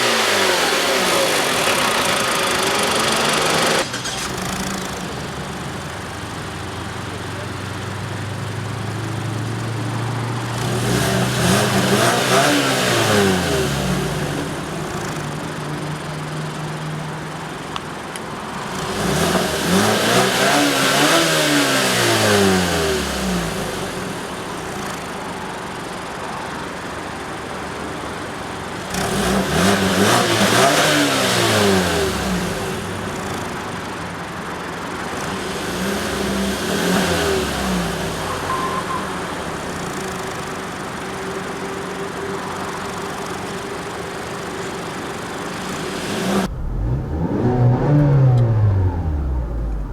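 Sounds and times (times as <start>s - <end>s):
car engine revving: 0.0s - 25.3s, 28.8s - 33.9s, 34.6s - 49.9s.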